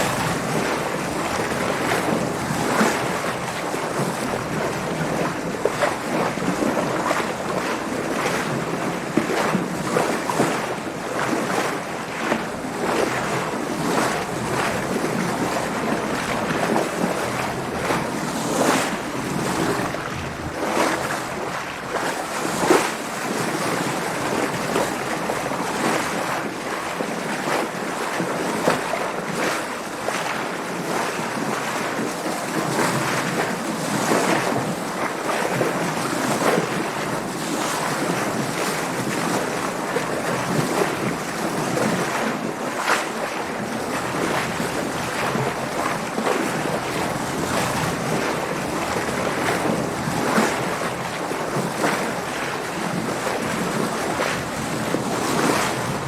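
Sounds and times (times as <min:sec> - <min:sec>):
water splashing against boat hull: 0:00.0 - 0:56.0.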